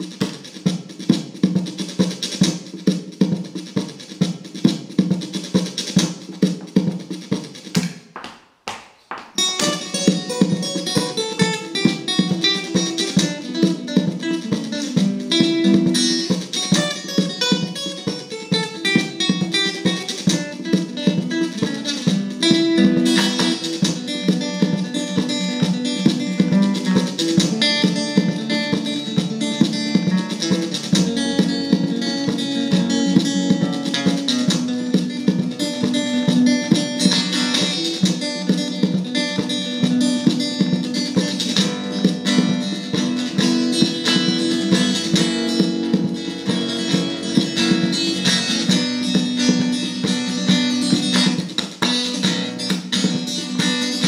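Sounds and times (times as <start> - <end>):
flamenco acoustic guitar: 0.0 - 8.2, 8.8 - 54.0.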